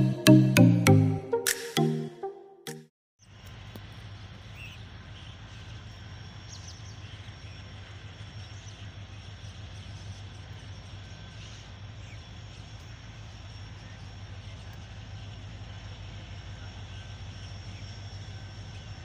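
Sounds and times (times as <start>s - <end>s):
diesel locomotive engine running: 3.3s - 19.0s.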